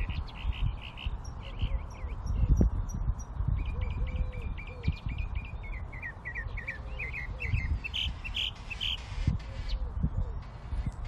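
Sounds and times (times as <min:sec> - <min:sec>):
birds chirping: 0:00.0 - 0:11.0
drawn-out low bird notes: 0:00.0 - 0:11.0.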